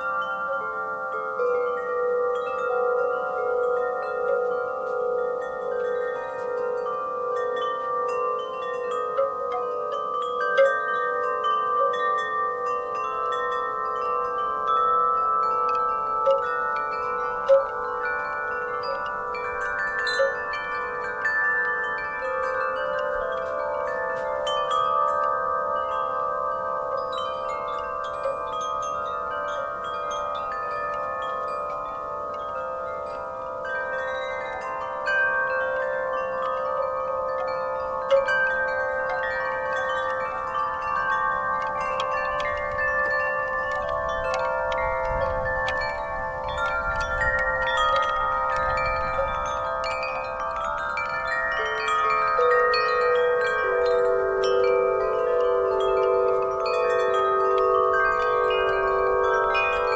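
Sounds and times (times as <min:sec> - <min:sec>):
wind chimes ringing: 0:00.0 - 0:59.9.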